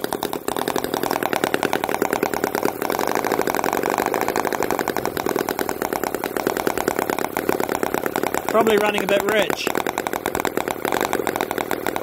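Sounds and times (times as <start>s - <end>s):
model engine running: 0.0s - 12.0s.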